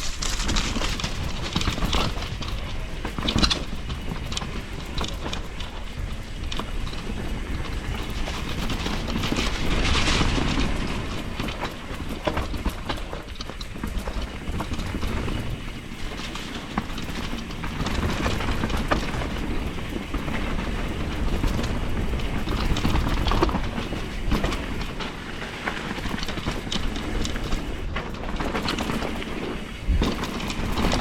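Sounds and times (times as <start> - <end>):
bike chain and frame rattling: 0.0 - 31.0
knobby tyres rolling on dirt: 0.0 - 31.0.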